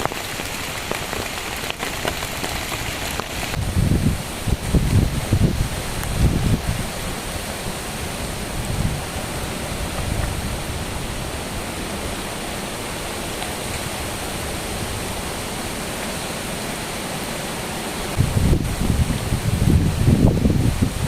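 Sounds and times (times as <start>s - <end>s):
wind buffeting microphone: 0.0s - 16.4s, 18.0s - 21.0s
heavy rain hissing: 0.0s - 21.0s.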